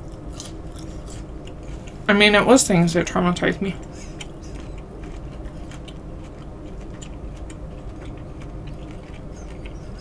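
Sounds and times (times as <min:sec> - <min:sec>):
chewing with mouth closed: 0:00.0 - 0:02.1, 0:03.8 - 0:10.0
steady low hum: 0:00.0 - 0:10.0.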